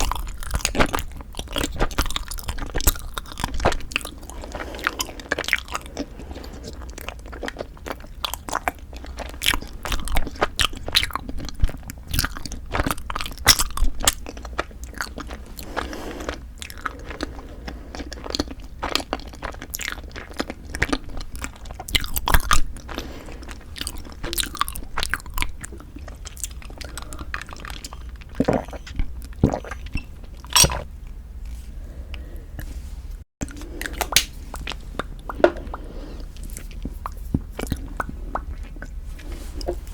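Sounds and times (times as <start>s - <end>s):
chewing and crunching rice cake: 0.0s - 31.6s, 33.4s - 39.9s.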